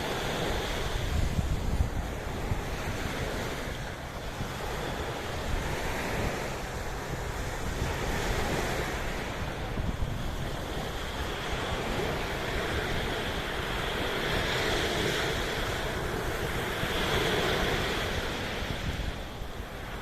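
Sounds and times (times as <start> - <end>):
sea waves washing in: 0.0 - 20.0
wind rumbling on microphone: 0.0 - 20.0.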